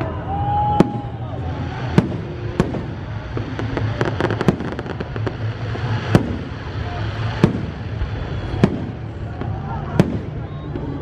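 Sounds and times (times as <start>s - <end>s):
firework bangs: 0.0s - 11.0s
firework crackle: 0.0s - 11.0s.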